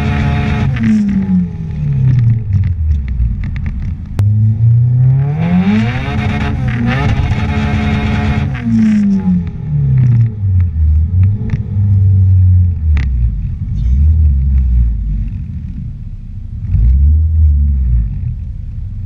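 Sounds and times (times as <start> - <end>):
car engine revving down: 0.0 - 19.0
deep exhaust rumble: 0.0 - 19.0.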